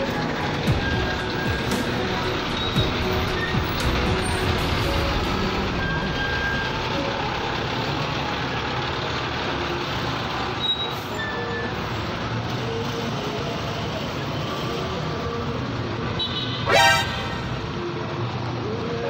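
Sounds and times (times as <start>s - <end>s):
bus running alongside: 0.0s - 19.0s
motorcycle engine and road noise: 0.0s - 19.0s.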